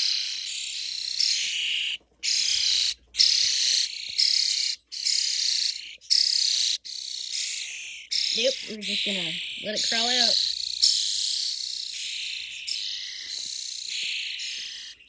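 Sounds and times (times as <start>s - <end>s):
young starlings begging calls: 0.0s - 15.0s.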